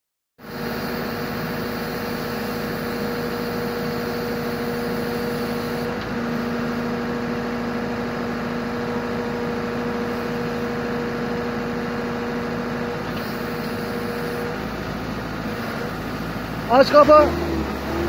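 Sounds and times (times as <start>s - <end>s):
excavator diesel engine and hydraulics: 0.4s - 18.0s.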